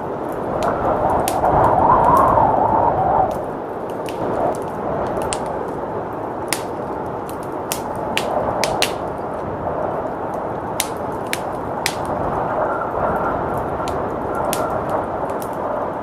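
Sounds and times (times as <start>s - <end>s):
blizzard wind rushing: 0.0s - 16.0s
wood fire crackling: 0.0s - 16.0s.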